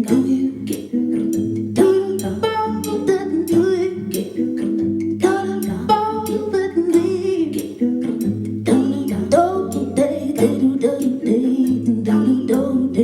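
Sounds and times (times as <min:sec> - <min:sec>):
woman singing in layered harmonies: 0:00.0 - 0:13.0.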